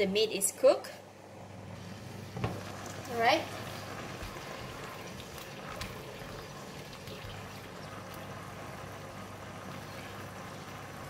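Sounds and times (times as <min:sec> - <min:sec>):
sauce bubbling in a wok: 0:01.8 - 0:11.0.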